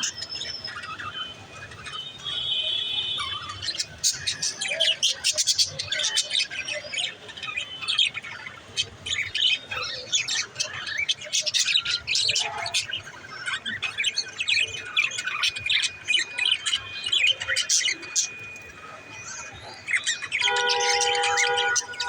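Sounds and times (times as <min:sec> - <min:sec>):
budgerigars chirping and warbling: 0:00.0 - 0:22.0.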